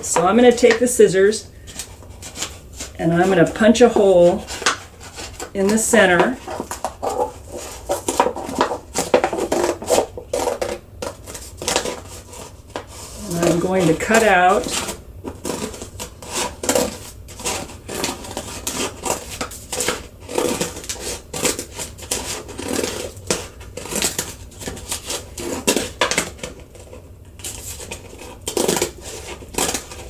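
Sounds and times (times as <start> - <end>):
scissors cutting paper: 1.6 - 30.0.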